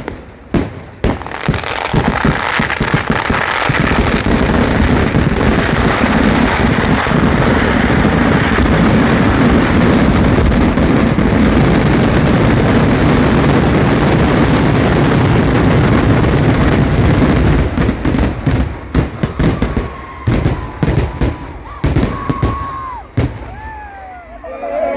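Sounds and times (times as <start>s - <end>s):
fireworks cracker barrage: 0.0s - 24.9s.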